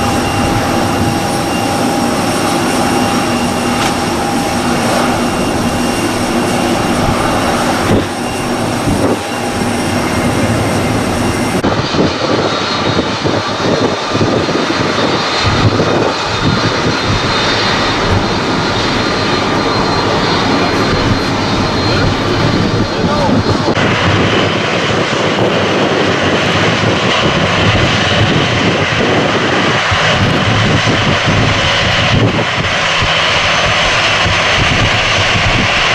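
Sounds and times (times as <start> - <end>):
jet engines whining: 0.0 - 35.9.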